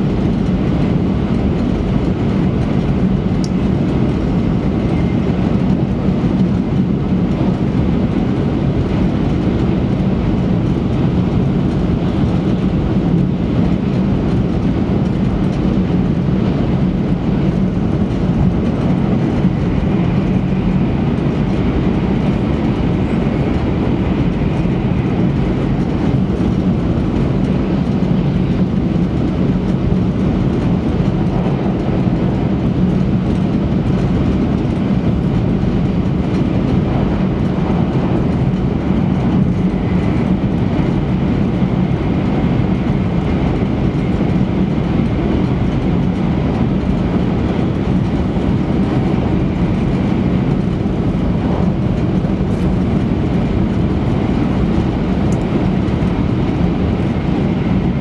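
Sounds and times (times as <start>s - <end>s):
constant low hum: 0.0s - 58.0s
train running noise inside cabin: 0.0s - 58.0s.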